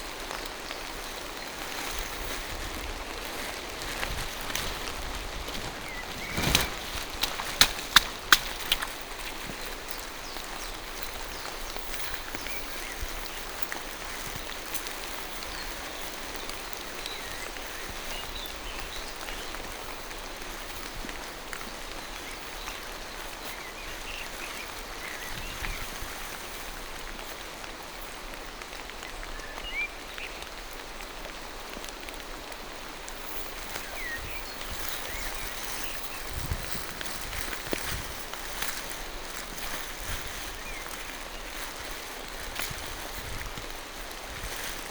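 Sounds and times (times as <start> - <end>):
rain falling through forest: 0.0 - 44.9.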